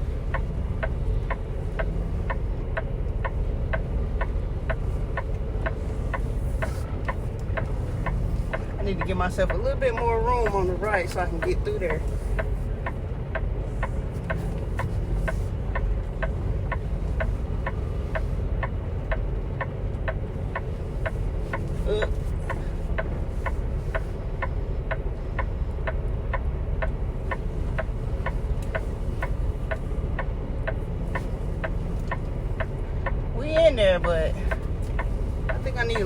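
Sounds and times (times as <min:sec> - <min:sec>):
diesel engine running low: 0:00.0 - 0:36.0
steady ticking: 0:00.0 - 0:36.0.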